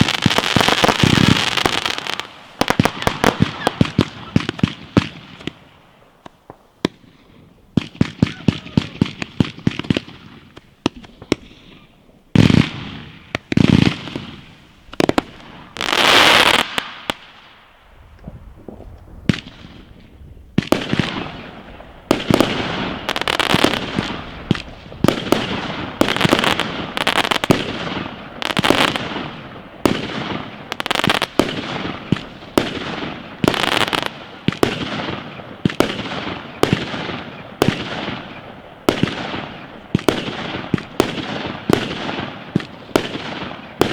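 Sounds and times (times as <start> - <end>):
fireworks bangs and booms: 0.0 - 43.9.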